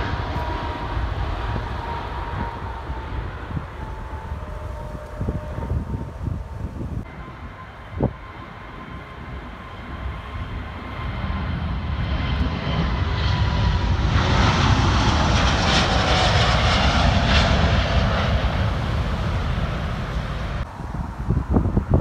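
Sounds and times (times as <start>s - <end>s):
jet airliner taking off: 0.0s - 22.0s
wind buffeting microphone: 0.0s - 22.0s.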